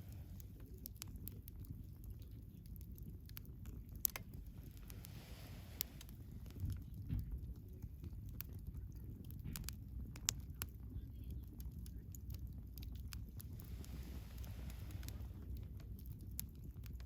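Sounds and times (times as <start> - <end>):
logs crackling and popping: 0.0 - 17.0
wood fire rumbling: 0.0 - 17.0.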